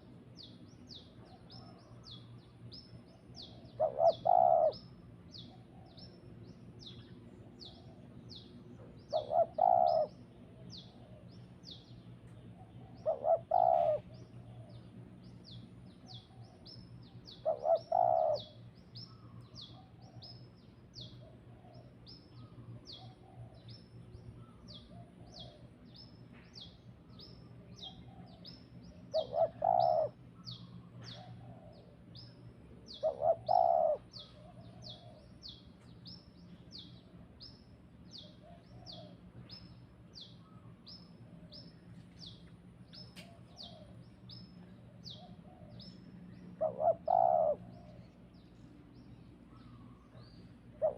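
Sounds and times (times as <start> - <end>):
lower-pitched bird calls: 0.0 - 50.9.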